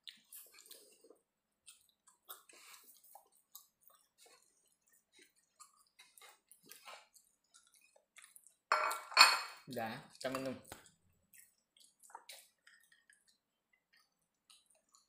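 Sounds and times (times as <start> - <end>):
person chewing food: 0.0 - 9.1, 10.1 - 15.0.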